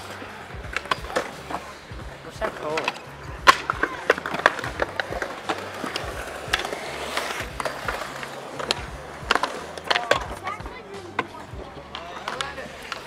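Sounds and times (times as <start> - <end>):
music: 0.0 - 13.0
scooter wheels rolling on concrete: 0.0 - 13.0
scooter deck clacking on ground: 2.4 - 13.0.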